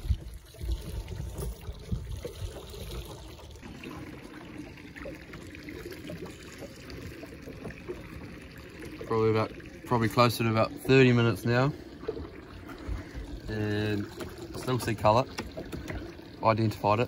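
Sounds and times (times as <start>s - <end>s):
small waves lapping against boat: 0.0s - 17.0s.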